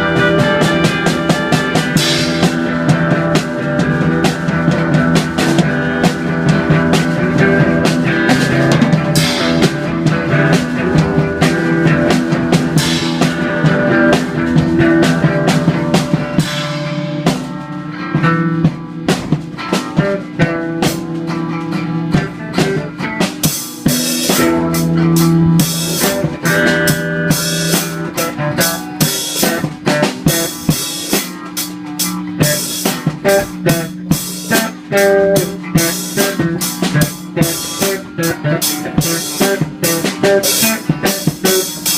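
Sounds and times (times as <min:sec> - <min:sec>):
rock drum beat: 0:00.0 - 0:41.9
sustained guitar chords: 0:00.0 - 0:41.9.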